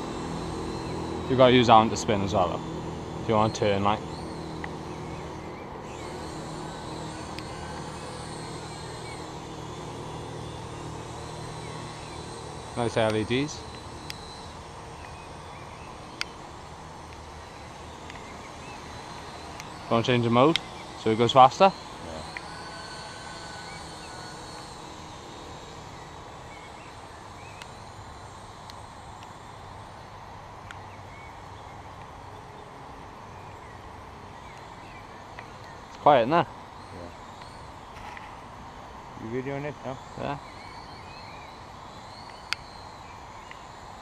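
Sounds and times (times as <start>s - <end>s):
faint high motor whine: 0.0s - 44.0s
quadcopter propellers humming: 0.0s - 44.0s.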